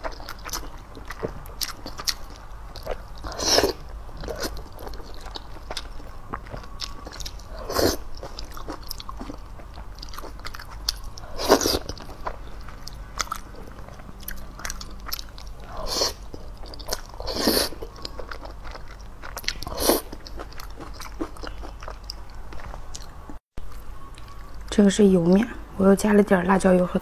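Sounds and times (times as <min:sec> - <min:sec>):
wet chewing: 0:00.0 - 0:24.7.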